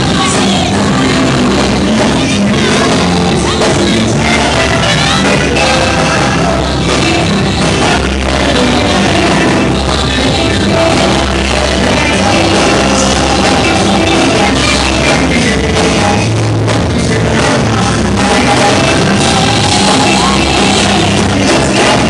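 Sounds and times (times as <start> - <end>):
woman singing gospel: 0.0 - 16.2, 17.4 - 22.0
band playing gospel music: 0.0 - 22.0.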